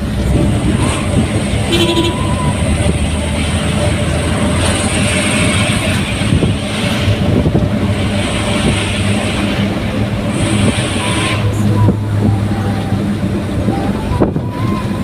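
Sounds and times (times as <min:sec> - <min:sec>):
pickup engine drone: 0:00.0 - 0:15.0
tyre and road noise: 0:00.0 - 0:15.0.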